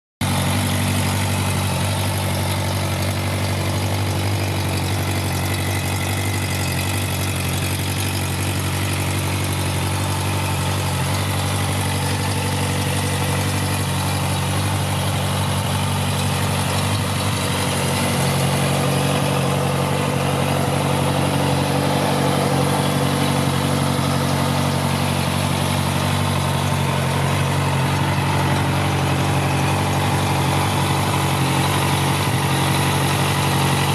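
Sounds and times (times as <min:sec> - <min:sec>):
motorcycle engine idling: 0:00.2 - 0:33.9.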